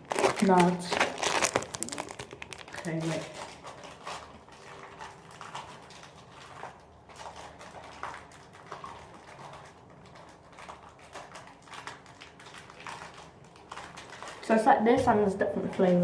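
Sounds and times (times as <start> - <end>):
snack packaging rustling: 0.0 - 14.8.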